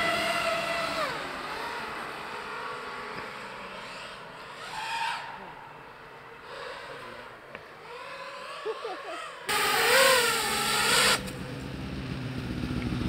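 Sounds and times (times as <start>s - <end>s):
drone motors whining: 0.0s - 13.0s
low engine sound: 0.0s - 13.0s.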